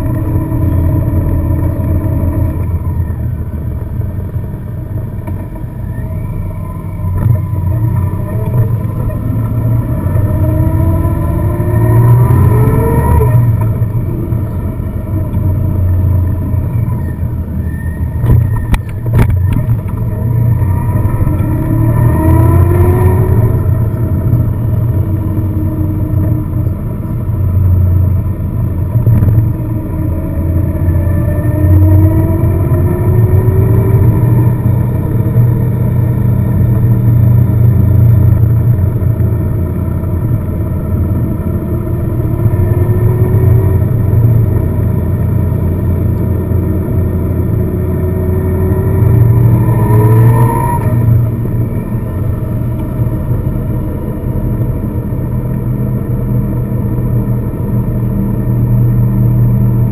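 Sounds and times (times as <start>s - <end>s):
car engine: 0.0s - 59.9s
road noise: 0.0s - 59.9s.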